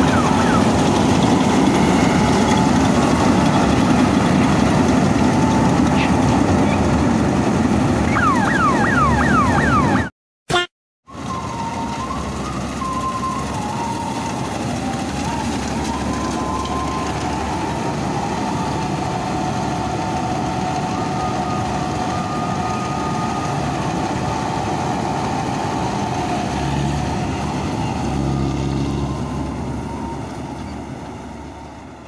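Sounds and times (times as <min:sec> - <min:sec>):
combine harvester drone: 0:00.0 - 0:10.1, 0:11.1 - 0:32.0.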